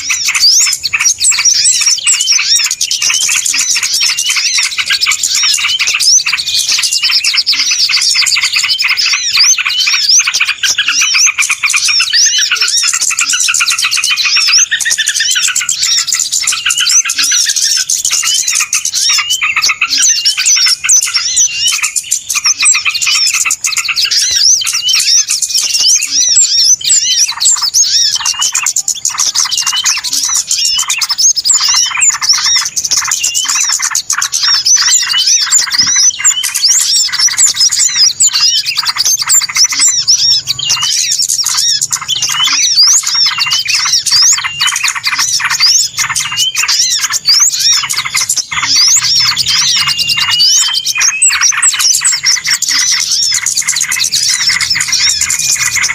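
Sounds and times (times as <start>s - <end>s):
many small birds chirping: 0.0s - 55.9s.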